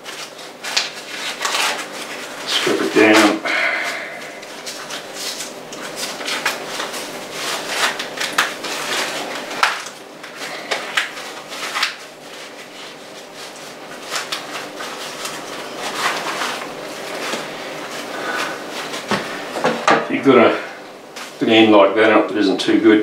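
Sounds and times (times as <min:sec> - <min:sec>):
corn husks tearing and rustling: 0:00.0 - 0:19.1.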